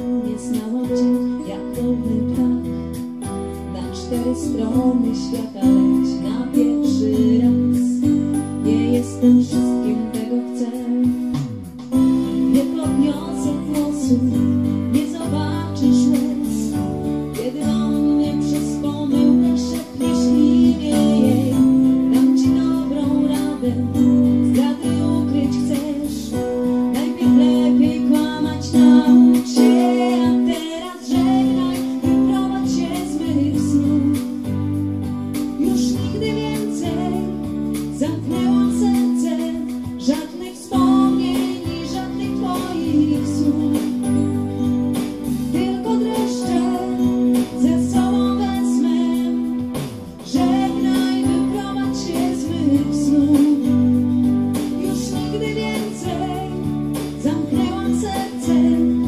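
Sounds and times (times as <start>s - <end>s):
pop band music with guitar: 0.0s - 59.0s
woman singing: 0.0s - 59.0s.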